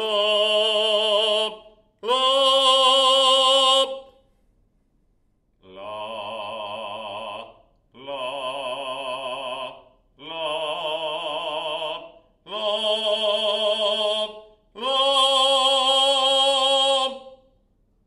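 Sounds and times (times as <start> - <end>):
man singing held notes with vibrato: 0.0 - 4.3, 5.6 - 17.6.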